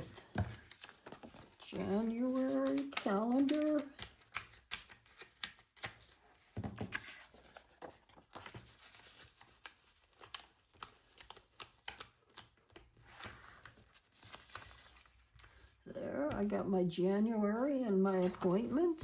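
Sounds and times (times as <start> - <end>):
paper pages rustling and snapping: 0.0 - 15.7.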